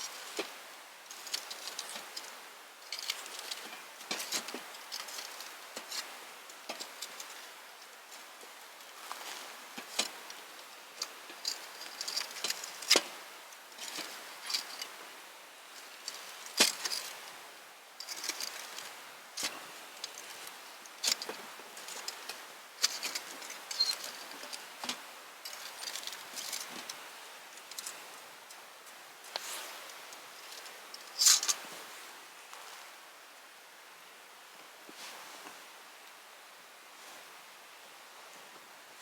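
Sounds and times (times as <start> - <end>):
soft fire hiss: 0.0 - 39.0.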